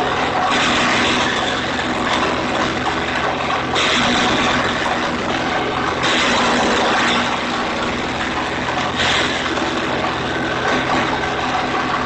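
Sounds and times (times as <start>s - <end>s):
wood chipper engine running: 0.0s - 12.0s.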